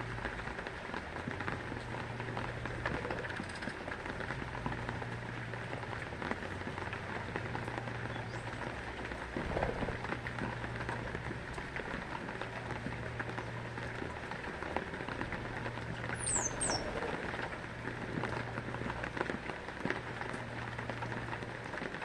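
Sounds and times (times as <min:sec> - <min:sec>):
heavy rain on hard surface: 0:00.0 - 0:22.0.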